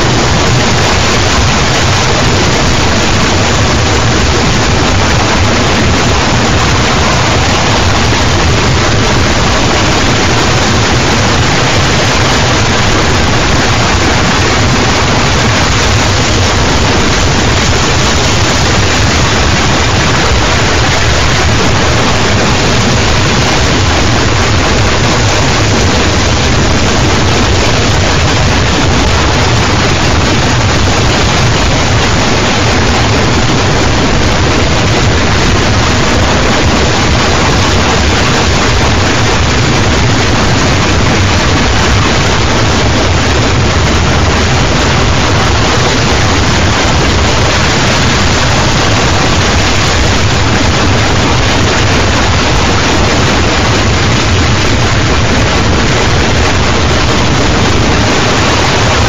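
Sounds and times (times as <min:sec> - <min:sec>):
harsh distorted noise music: 0:00.0 - 0:59.0.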